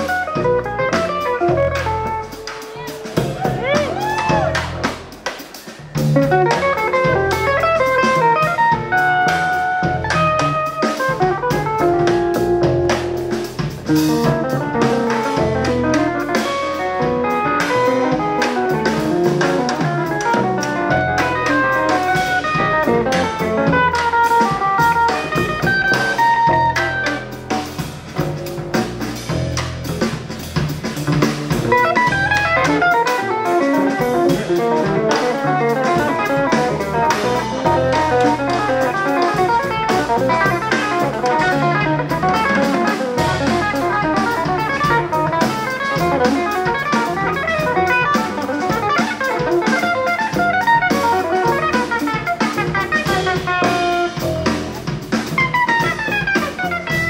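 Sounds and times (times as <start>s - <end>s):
drum kit: 0.0s - 57.0s
upright bass: 0.0s - 57.0s.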